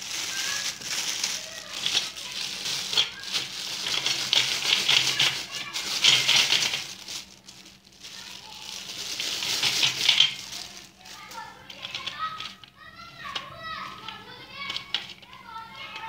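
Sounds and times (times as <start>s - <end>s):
dry chunks shifting in bag: 0.0s - 16.0s
plastic bag crinkling: 0.0s - 16.0s.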